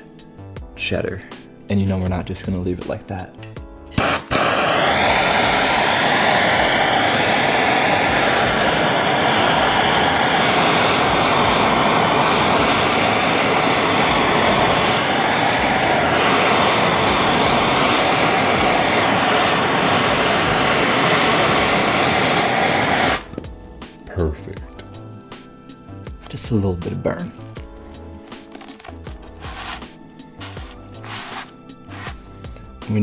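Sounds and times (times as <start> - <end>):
blow torch hissing: 3.9 - 23.7, 24.3 - 32.6.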